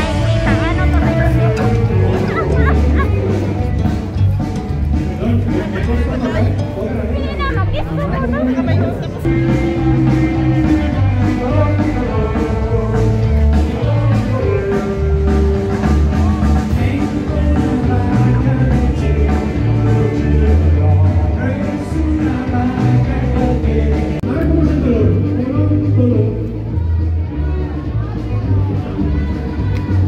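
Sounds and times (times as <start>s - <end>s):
person singing: 0.0s - 3.8s, 5.0s - 30.0s
bass line: 0.0s - 30.0s
drums: 0.0s - 30.0s
guitar: 0.0s - 30.0s.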